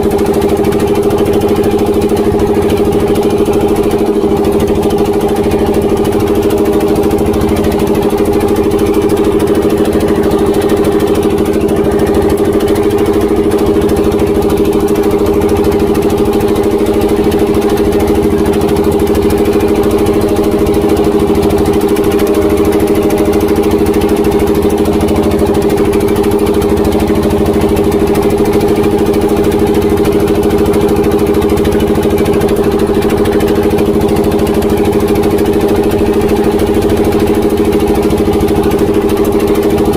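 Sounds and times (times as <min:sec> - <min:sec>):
boat diesel engine droning: 0:00.0 - 0:39.9.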